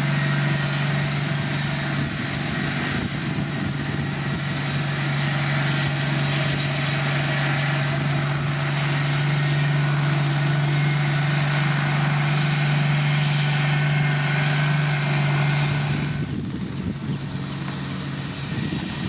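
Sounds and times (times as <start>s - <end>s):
diesel engine of heavy machinery: 0.0s - 19.0s.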